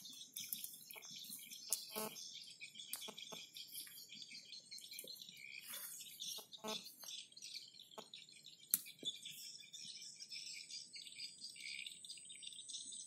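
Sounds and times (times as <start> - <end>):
birds and insects chirping: 0.0 - 13.0.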